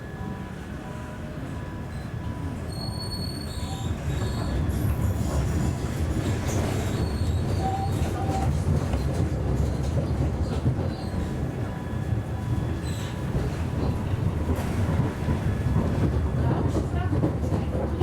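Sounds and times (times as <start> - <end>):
tram wheels rumbling on rail: 0.0 - 18.0.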